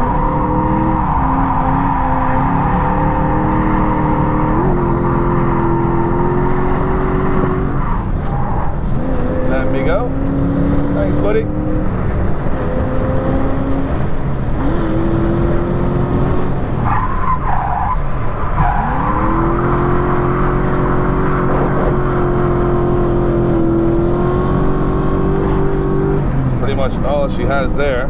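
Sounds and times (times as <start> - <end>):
car engine revving hard: 0.0 - 17.6, 18.5 - 27.6.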